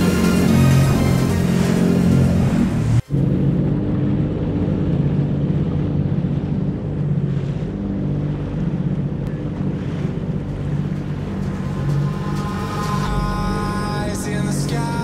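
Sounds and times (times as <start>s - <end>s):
jet ski engine running: 0.0s - 15.0s
water rushing past hull: 0.0s - 15.0s.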